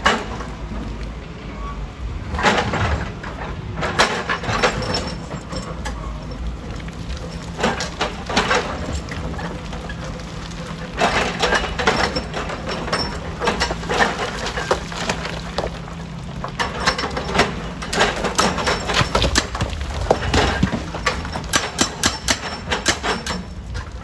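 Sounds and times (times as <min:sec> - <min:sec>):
rocks clattering against steel: 0:04.0 - 0:24.0
diesel engine humming: 0:04.5 - 0:24.0.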